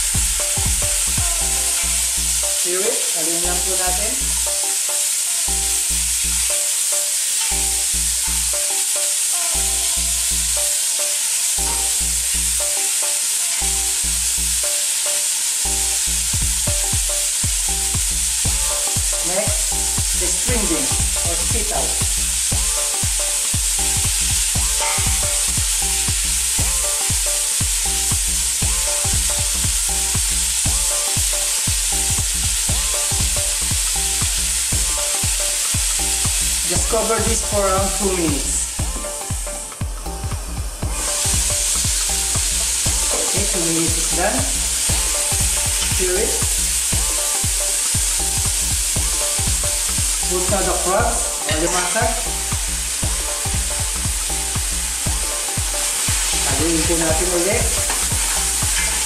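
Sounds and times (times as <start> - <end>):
vegetables frying in hot oil: 0.0 - 59.0.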